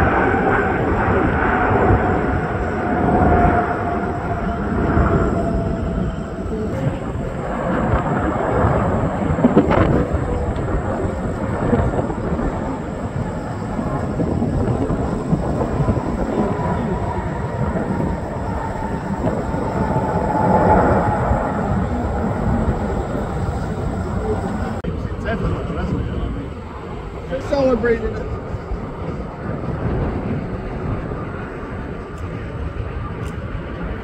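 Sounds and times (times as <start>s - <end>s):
faint jet engine whine: 0.0s - 34.0s
jet engines rumbling: 0.0s - 34.0s.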